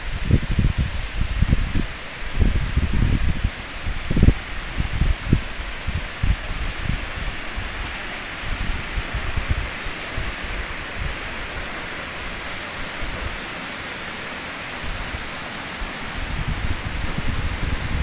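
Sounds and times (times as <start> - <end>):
wind buffeting microphone: 0.0 - 13.5, 14.6 - 18.0
waterfall rushing: 0.0 - 18.0.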